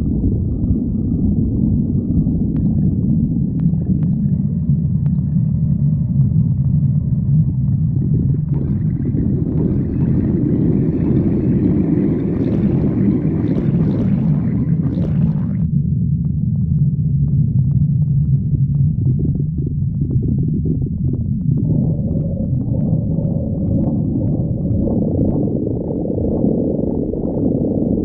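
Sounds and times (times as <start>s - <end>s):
stomach growling: 0.0s - 28.0s.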